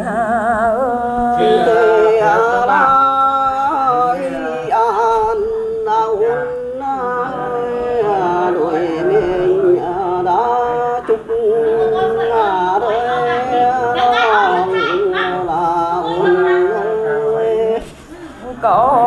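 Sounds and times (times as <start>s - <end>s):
person singing long wavering notes: 0.0s - 17.8s.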